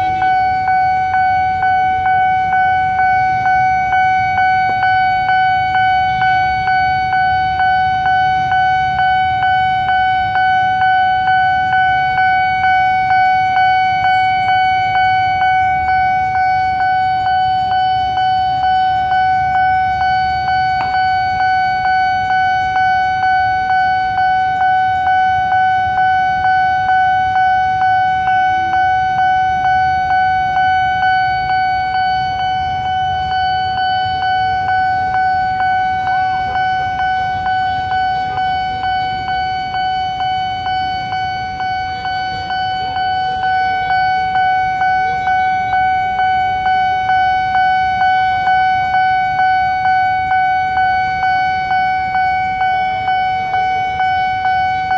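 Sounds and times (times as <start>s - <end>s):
idling traffic rumble: 0.0s - 54.9s
railroad crossing alarm ringing: 0.0s - 54.9s.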